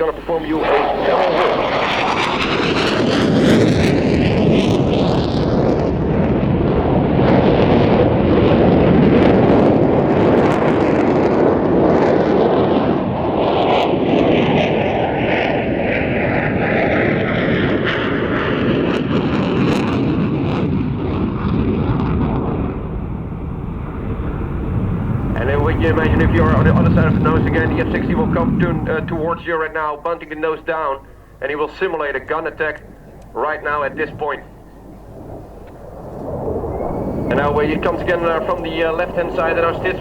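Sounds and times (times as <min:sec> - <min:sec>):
fighter jet roar flying past: 0:00.0 - 0:40.0.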